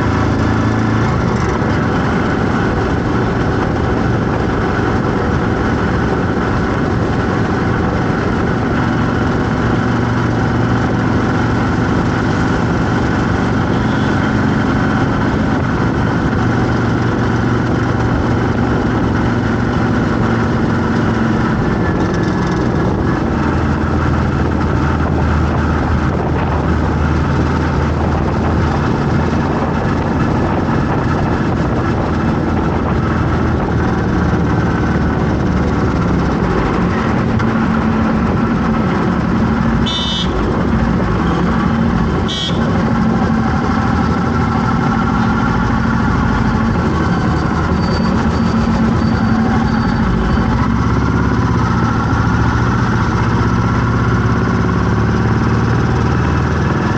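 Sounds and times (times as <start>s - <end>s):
road traffic: 0.0s - 56.9s
vehicle engine running: 0.0s - 56.9s.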